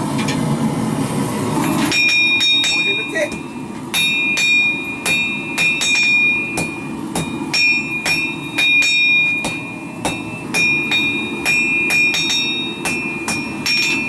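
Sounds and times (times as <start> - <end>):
hammer striking steel on anvil: 1.8 - 14.0.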